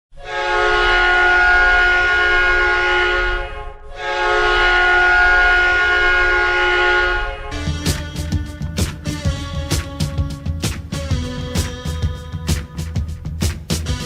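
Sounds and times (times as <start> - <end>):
hockey goal horn blasts: 0.2 - 13.0.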